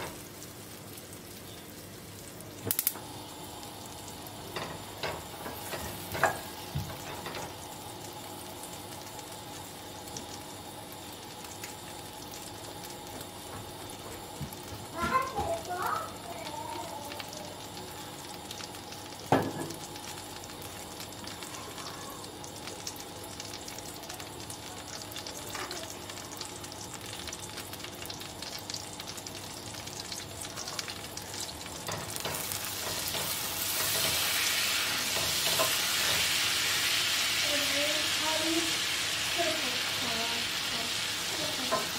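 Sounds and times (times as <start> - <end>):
butter sizzling in oil: 0.0 - 41.9.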